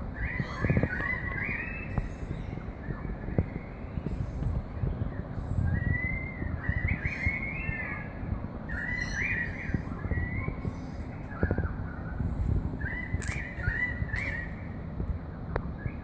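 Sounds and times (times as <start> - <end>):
steady low rumble: 0.0 - 16.0
birds warbling: 0.1 - 14.8.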